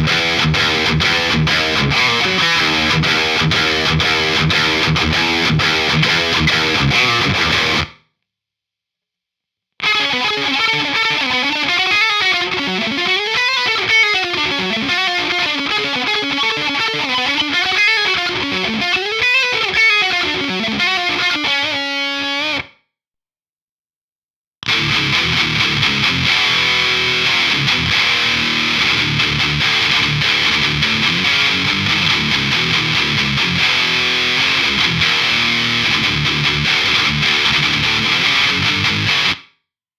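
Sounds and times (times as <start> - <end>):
distorted electric guitar: 0.0 - 8.0, 9.8 - 22.7, 24.6 - 39.5.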